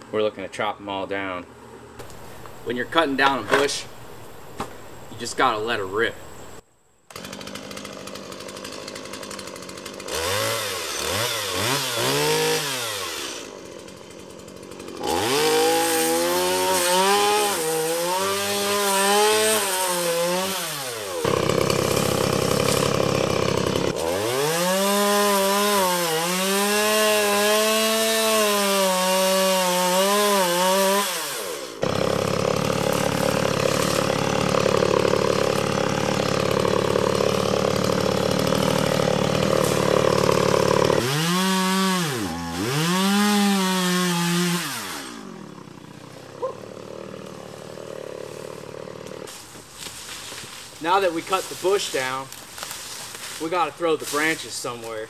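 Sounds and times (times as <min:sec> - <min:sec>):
chainsaw revving and cutting: 0:07.1 - 0:55.0.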